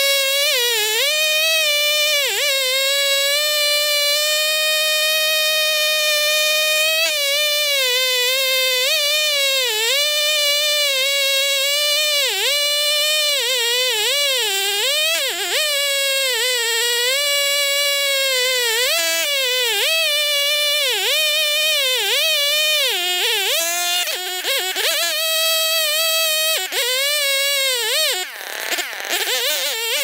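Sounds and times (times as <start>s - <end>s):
chainsaw cutting through log: 0.0s - 30.0s.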